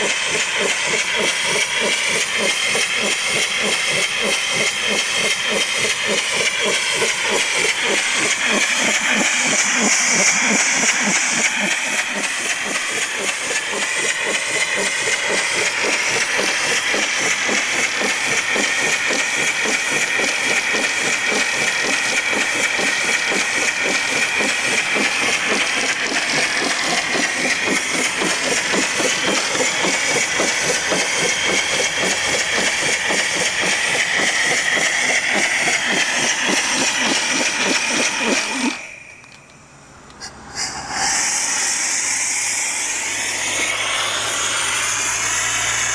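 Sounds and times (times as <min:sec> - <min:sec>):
steam hissing: 0:00.0 - 0:39.3, 0:40.1 - 0:45.9
steam engine chuffing: 0:00.0 - 0:45.9.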